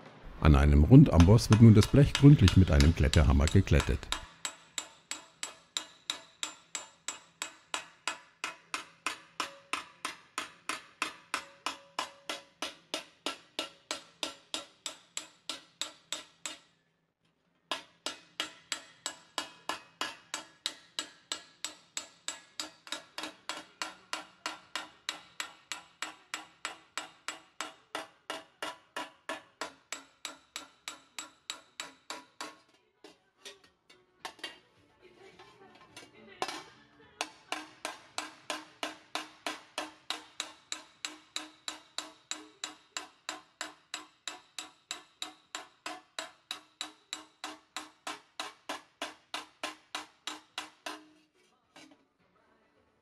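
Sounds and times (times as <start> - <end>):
hammer striking sheet metal: 1.1 - 16.7, 17.7 - 32.6, 37.2 - 51.1.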